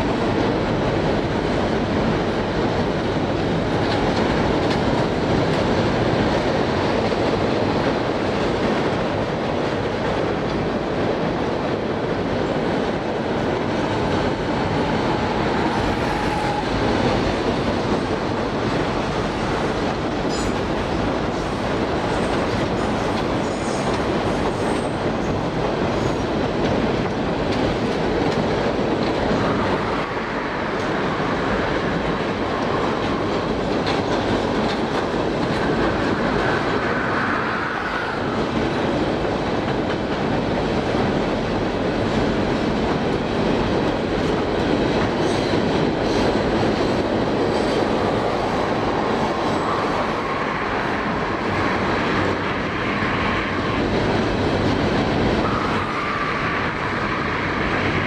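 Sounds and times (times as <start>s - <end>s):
train wheels running on rails: 0.0s - 58.0s.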